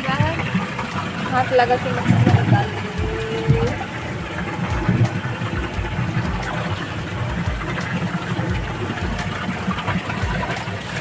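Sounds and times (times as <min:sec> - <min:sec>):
low uneven rumble: 0:00.0 - 0:11.0
water splashing into tanks: 0:00.0 - 0:11.0.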